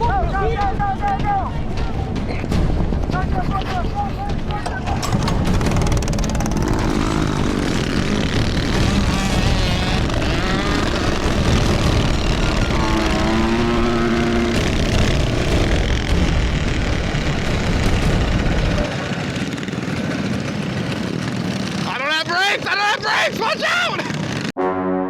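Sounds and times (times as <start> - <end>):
minibike engines revving: 3.1 - 24.5.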